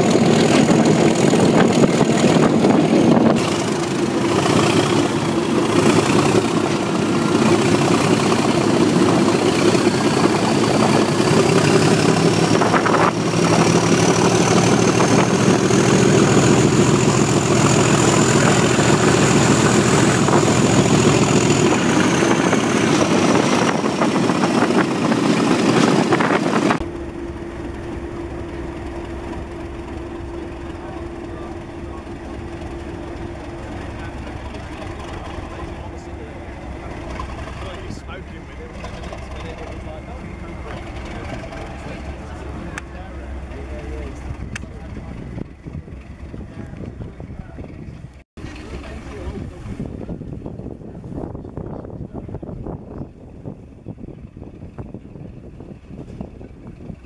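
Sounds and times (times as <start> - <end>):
locomotive idling: 0.0 - 25.5, 26.8 - 50.1
diesel locomotive engines working hard: 0.0 - 57.0.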